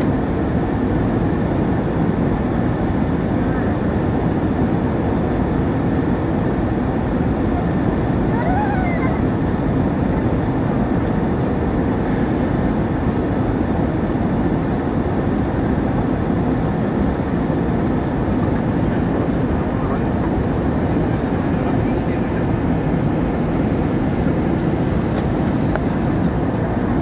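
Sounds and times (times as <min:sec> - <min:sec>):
jet engines: 0:00.0 - 0:27.0
rushing airflow: 0:00.0 - 0:27.0.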